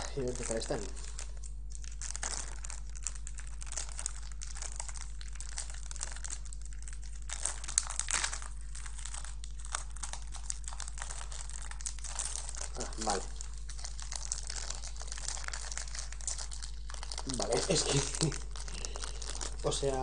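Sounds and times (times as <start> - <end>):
snack bag crinkling: 0.0 - 20.0
steady low hum: 0.0 - 20.0.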